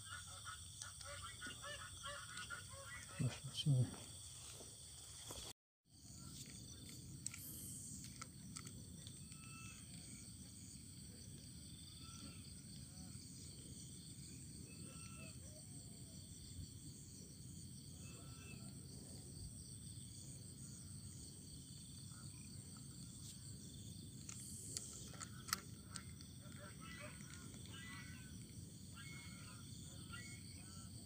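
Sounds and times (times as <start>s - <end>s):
high-pitched insect drone: 0.0s - 31.0s.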